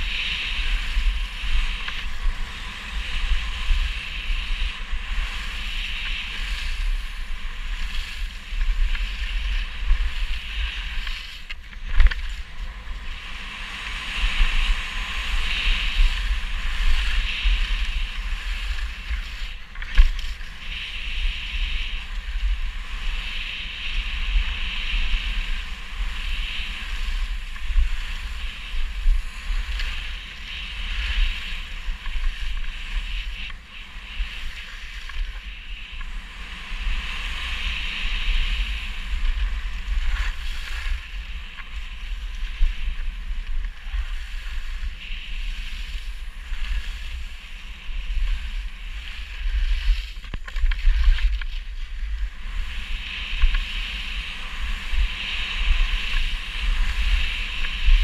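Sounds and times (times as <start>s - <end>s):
skis scraping over snow: 0.0s - 58.0s
wind buffeting microphone: 0.0s - 58.0s.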